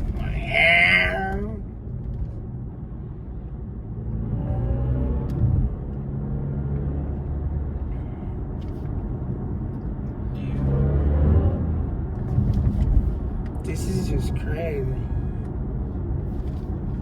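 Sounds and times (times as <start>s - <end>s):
car drive hum: 0.0s - 17.0s.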